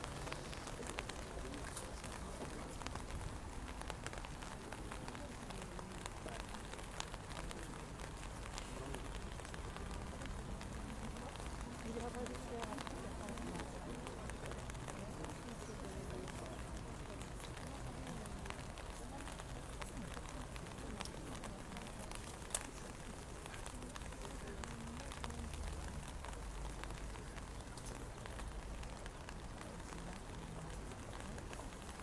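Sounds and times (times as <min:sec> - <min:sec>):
rain on umbrellas and pavement: 0:00.0 - 0:32.0.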